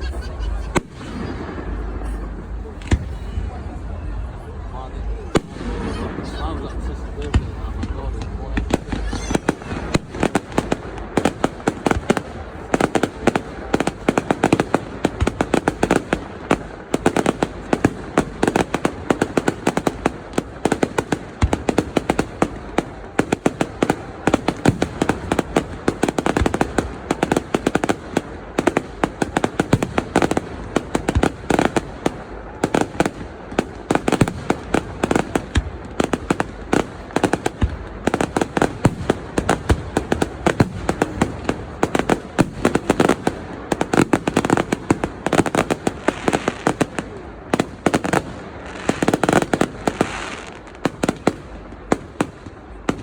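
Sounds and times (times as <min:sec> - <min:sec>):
fireworks banging: 0:00.0 - 0:53.0.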